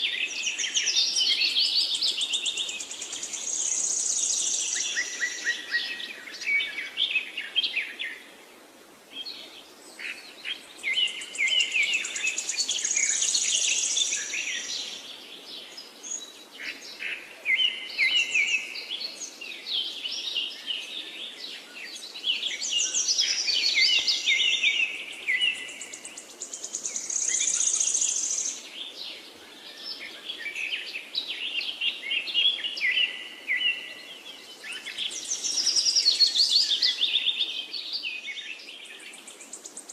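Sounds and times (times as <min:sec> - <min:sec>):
small birds chirping: 0:00.0 - 0:08.4, 0:09.1 - 0:39.9.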